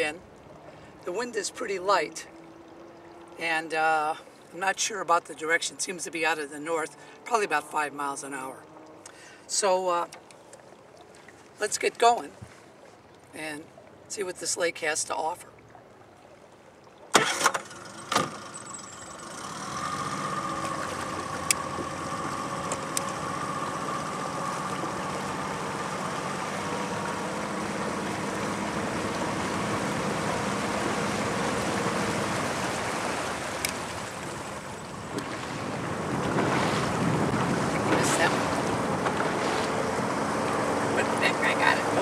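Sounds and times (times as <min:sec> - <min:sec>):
boat motor running: 0:00.0 - 0:10.7, 0:17.1 - 0:42.0
water wash and wind: 0:00.0 - 0:42.0.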